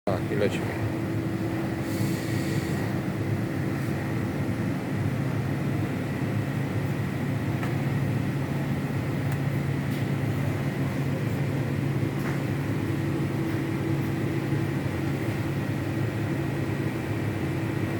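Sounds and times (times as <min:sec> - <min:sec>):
machine mechanical hum: 0:00.1 - 0:17.9.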